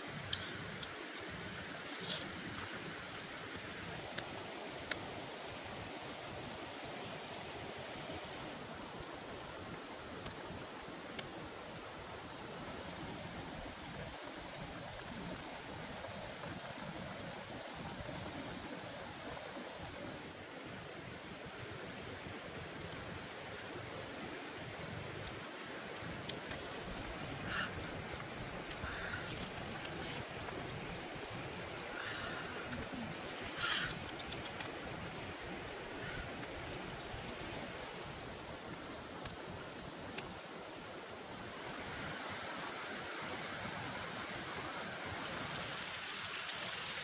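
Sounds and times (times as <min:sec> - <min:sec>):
wood fire crackling: 0:00.2 - 0:42.0.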